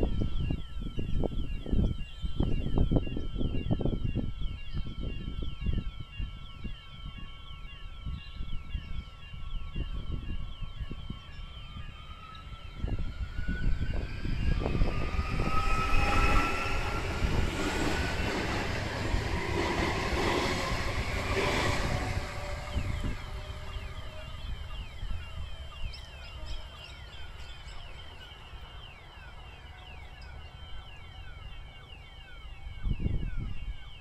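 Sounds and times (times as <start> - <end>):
electric train passing: 0.0 - 34.0.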